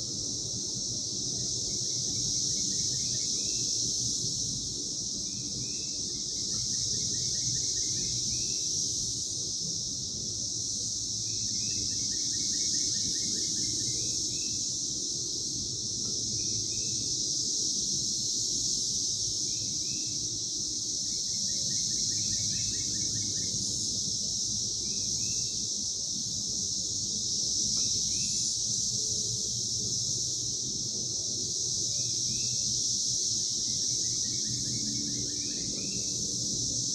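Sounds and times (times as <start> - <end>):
cicadas buzzing: 0.0 - 36.9.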